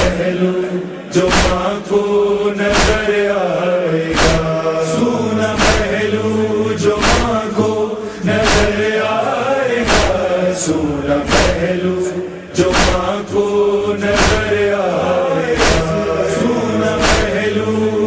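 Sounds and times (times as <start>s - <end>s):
chorus chanting long notes: 0.0s - 18.0s
rhythmic chest-beating: 0.0s - 18.0s.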